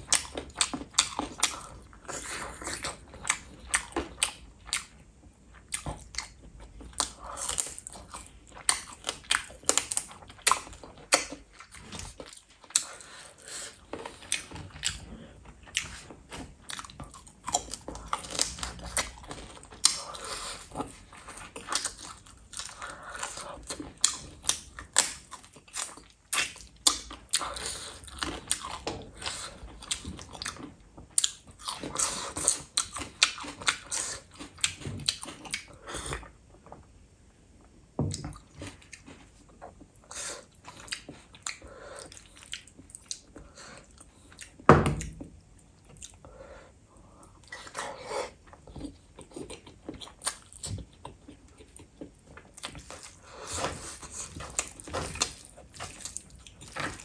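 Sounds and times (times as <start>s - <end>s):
person chewing: 0.0s - 36.8s, 38.1s - 57.0s.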